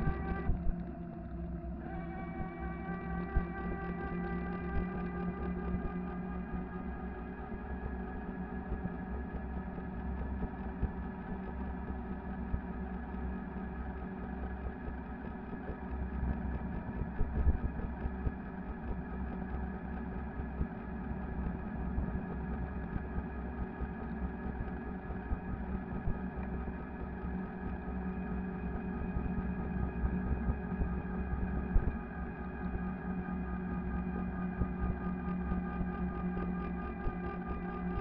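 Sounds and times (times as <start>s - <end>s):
electric bike motor and tyres hum: 0.0s - 38.0s.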